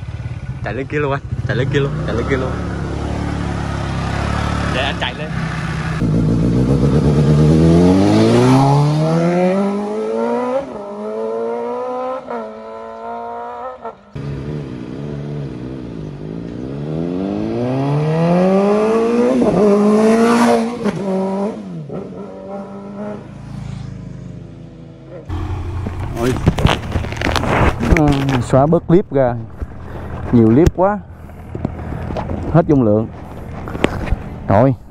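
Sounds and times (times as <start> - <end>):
motorcycle engine accelerating: 0.0 - 34.6.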